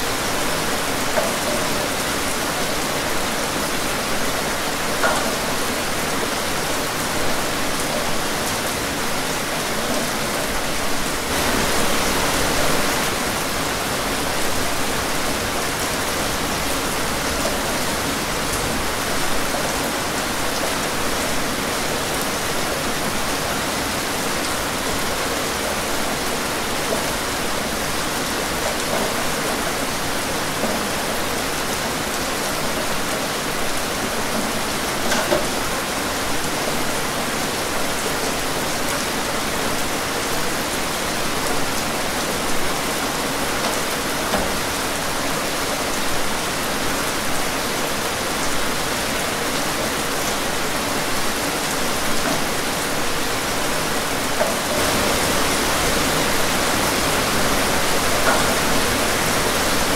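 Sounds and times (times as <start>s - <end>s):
heavy rain: 0.0s - 59.9s
louder raindrops: 0.0s - 59.9s.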